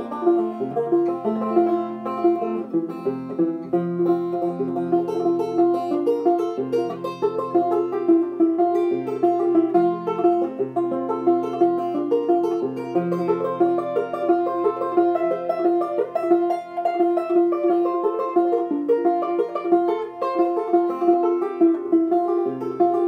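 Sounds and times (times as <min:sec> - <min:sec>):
banjo picking: 0:00.0 - 0:23.0.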